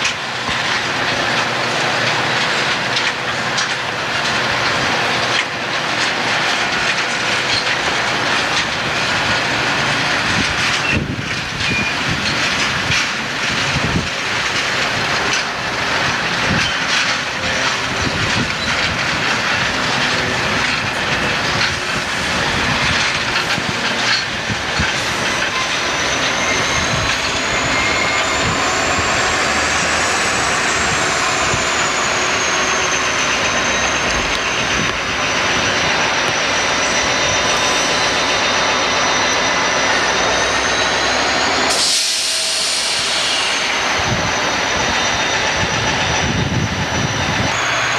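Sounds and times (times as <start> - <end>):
high wheel squeal on rails: 0.0 - 47.9
rumble of train cars: 0.0 - 47.9
train wheels clicking over rail joints: 0.0 - 47.9.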